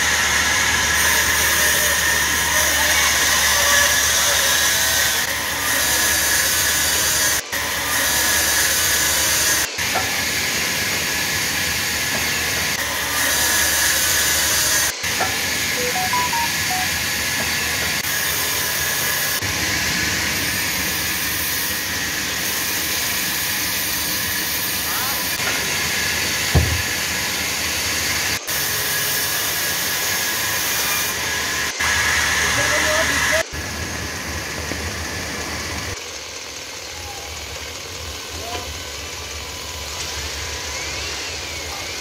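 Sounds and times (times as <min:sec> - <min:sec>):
band saw cutting log: 0:00.0 - 0:15.8, 0:17.3 - 0:36.8.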